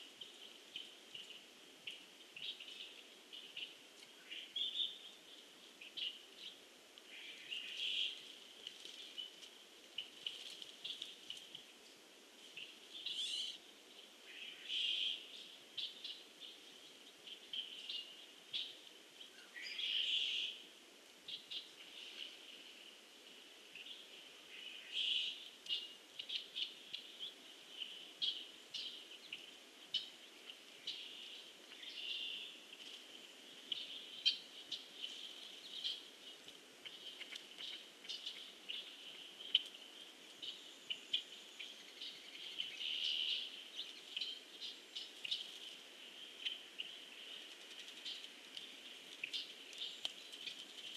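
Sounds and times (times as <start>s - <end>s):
faint low background hiss: 0.0s - 50.9s
small birds chirping: 0.0s - 50.9s.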